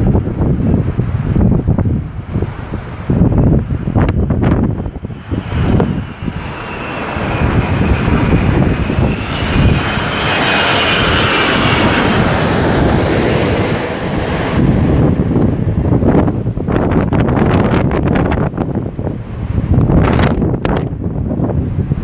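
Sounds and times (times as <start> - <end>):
jet engines passing overhead: 0.0 - 22.0
wind buffeting microphone: 0.0 - 22.0.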